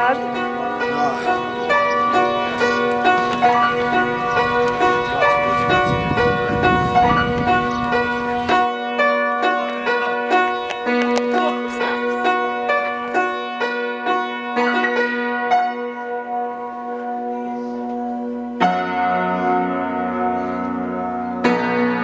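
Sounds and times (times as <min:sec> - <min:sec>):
upright piano playing: 0:00.0 - 0:22.0.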